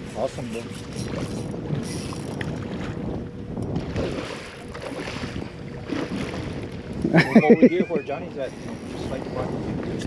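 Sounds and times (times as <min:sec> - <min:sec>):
water noise: 0:00.0 - 0:10.0
wind buffeting microphone: 0:00.0 - 0:10.0.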